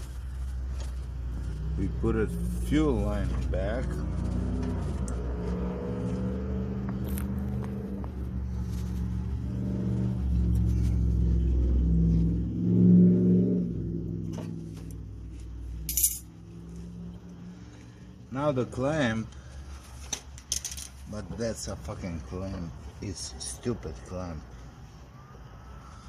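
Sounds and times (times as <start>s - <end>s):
engine-like rumble: 0.0s - 26.0s.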